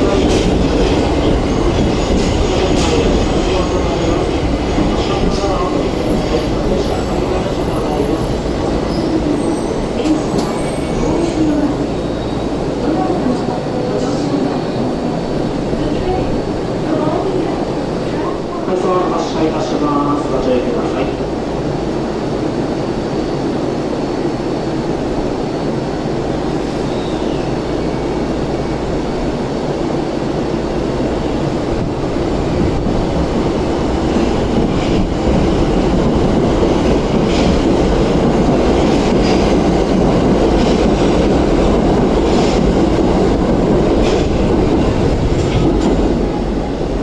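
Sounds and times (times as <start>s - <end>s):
subway train pulling away: 0.0s - 47.0s.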